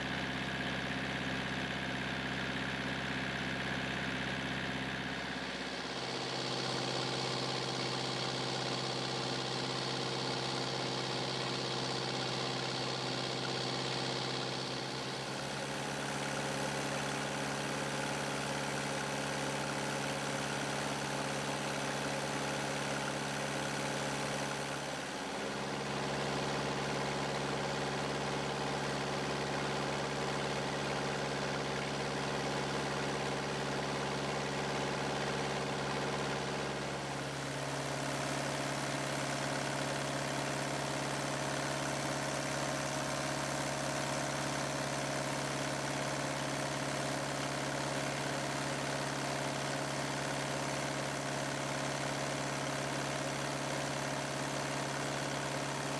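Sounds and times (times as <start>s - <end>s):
diesel engine running at high speed: 0.0s - 55.9s.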